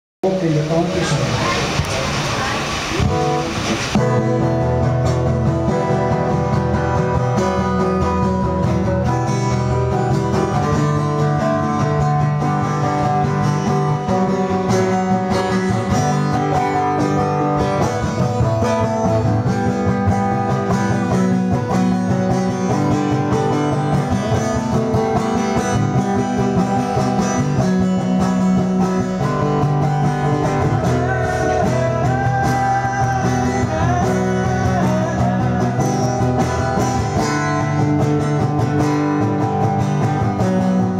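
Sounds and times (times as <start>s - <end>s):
acoustic guitar strumming: 0.2s - 40.9s.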